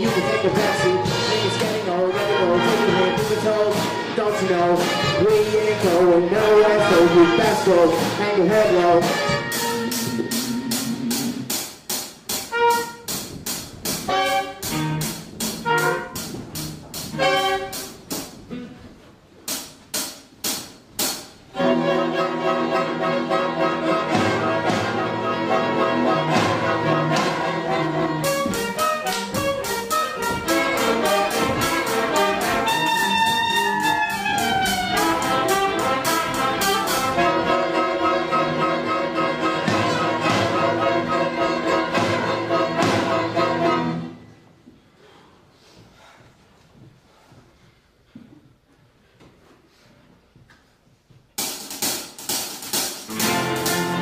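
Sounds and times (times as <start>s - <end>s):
school ensemble playing: 0.0s - 18.9s, 20.5s - 44.4s, 52.2s - 54.0s.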